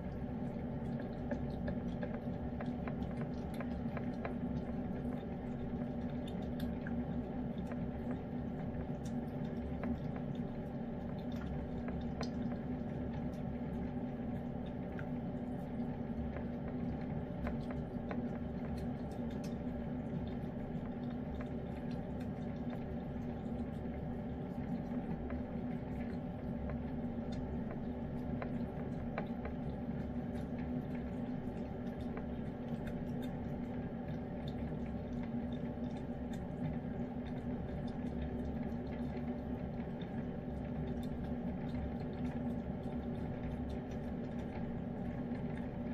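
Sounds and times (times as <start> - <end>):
cat licking and chewing food: 0.0 - 45.9
steady low hum: 0.0 - 45.9.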